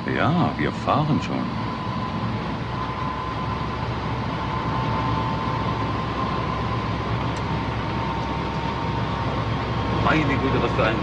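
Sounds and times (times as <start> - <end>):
electric locomotive running: 0.0 - 11.0.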